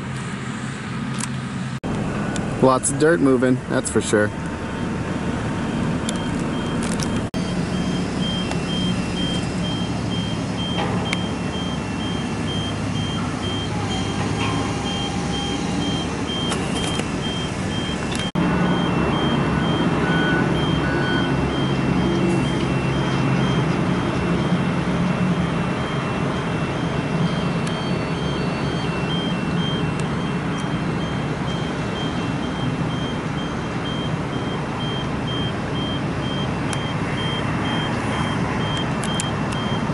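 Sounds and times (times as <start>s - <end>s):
machinery engines rumbling: 0.0s - 39.9s
reversing alarm beeping: 4.6s - 39.9s.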